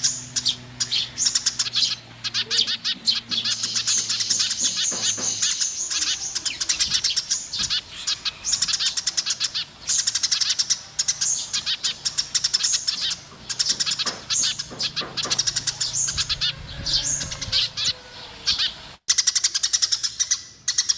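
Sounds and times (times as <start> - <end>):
sparrows chirping: 0.0 - 20.9.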